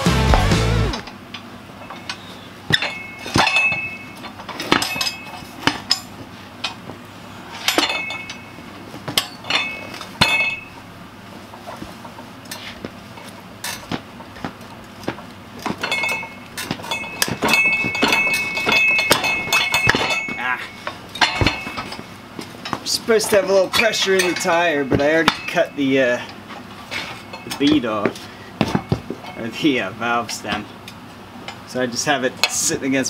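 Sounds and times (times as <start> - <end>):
metal clanks and clinks: 0.9 - 6.8, 7.5 - 10.9, 11.5 - 14.5, 15.1 - 31.7.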